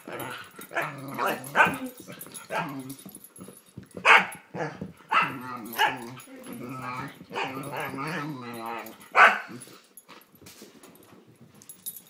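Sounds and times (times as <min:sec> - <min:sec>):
dogs barking in play: 0:00.0 - 0:09.8.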